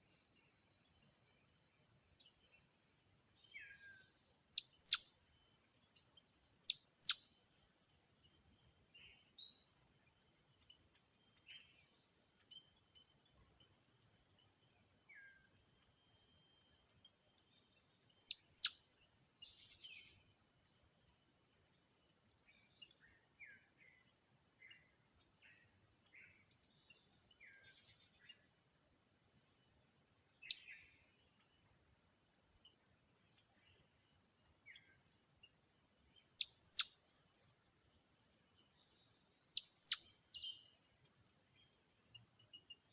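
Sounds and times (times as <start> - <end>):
faint small bird chirps: 0.0 - 21.2, 22.3 - 28.6, 30.3 - 31.5, 32.4 - 33.9, 34.6 - 42.9
high insect drone: 0.0 - 42.9.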